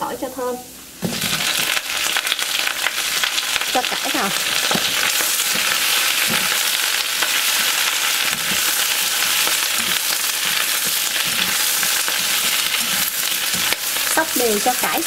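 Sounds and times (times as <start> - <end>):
sizzling hiss of stir-frying: 0.0 - 15.0
spatula stirring in pan: 1.0 - 15.0.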